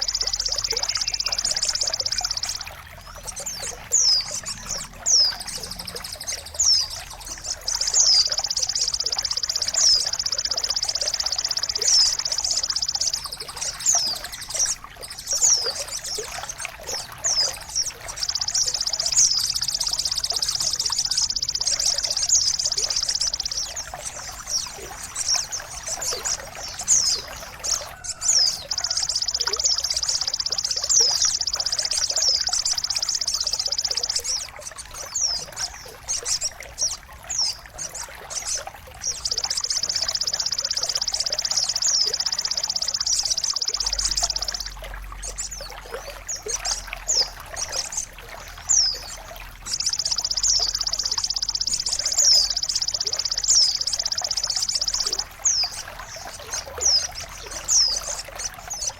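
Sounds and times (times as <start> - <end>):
bird whistles and trills: 0.0 - 58.9
trickling water: 0.0 - 58.9.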